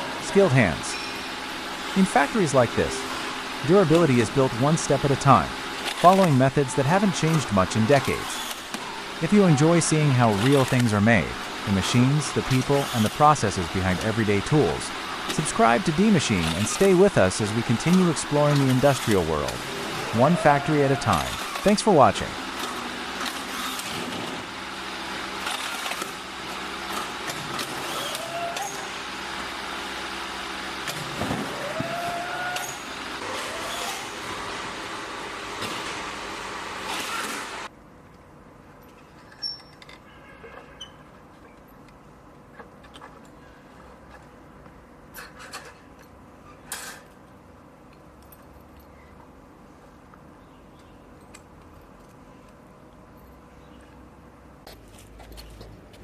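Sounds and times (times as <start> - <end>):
mechanical background noise: 0.0 - 56.0.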